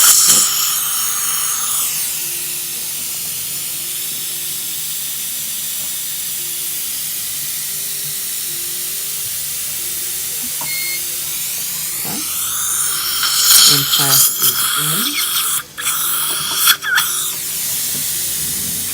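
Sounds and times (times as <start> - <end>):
dental suction hissing: 0.0 - 18.9.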